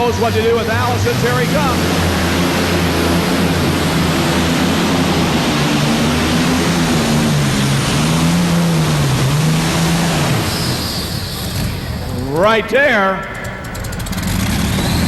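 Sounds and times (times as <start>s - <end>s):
aircraft engines at full throttle: 0.0s - 15.0s.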